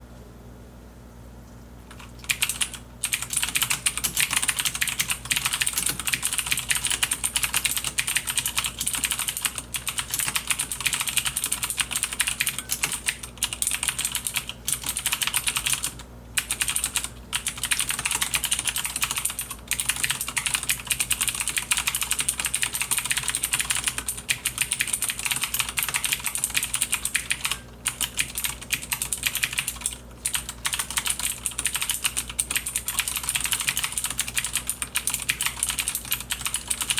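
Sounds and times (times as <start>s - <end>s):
clicky mechanical keyboard typing: 1.9s - 36.9s.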